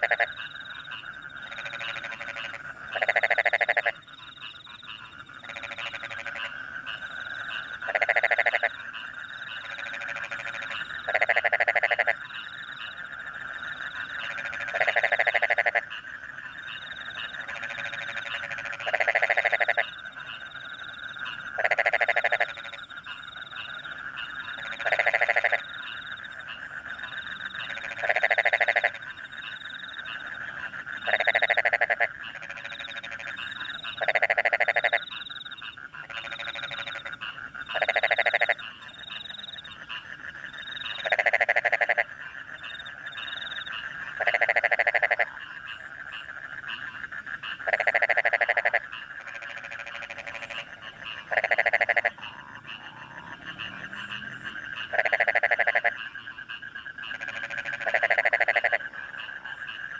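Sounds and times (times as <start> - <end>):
crickets chirping: 0.0 - 59.9
frogs croaking chorus: 0.0 - 59.9
loud frog call: 0.0 - 59.9.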